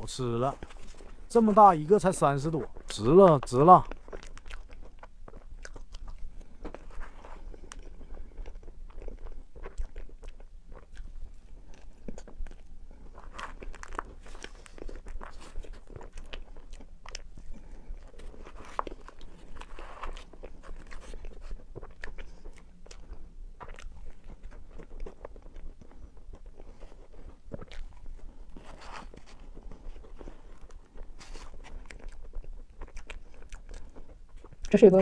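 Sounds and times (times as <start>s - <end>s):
biting and chewing: 0.0s - 35.0s.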